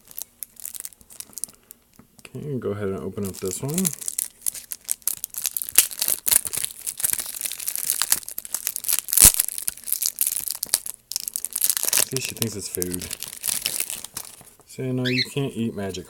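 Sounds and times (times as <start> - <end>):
plastic wrapper crinkling and tearing: 0.0 - 2.4, 3.1 - 14.6.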